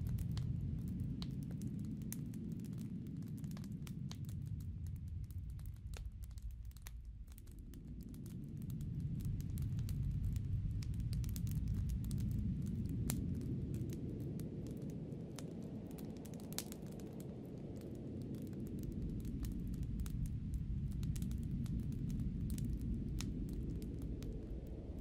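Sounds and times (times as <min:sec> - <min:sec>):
low wind rumble: 0:00.0 - 0:25.0
sharp crackles: 0:00.0 - 0:25.0.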